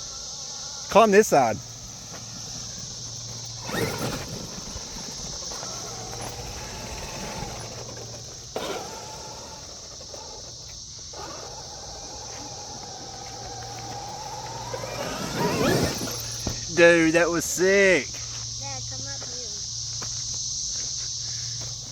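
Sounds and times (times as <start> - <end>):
toy truck electric motor whining: 0.0 - 17.8
high insect drone: 0.0 - 21.9.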